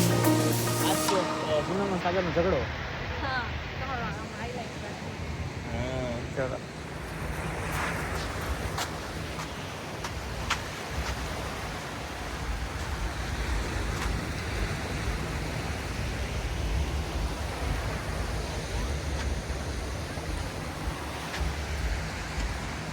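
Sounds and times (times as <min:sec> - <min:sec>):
sea surf: 0:00.0 - 0:22.9
wind rumbling on microphone: 0:02.8 - 0:22.9.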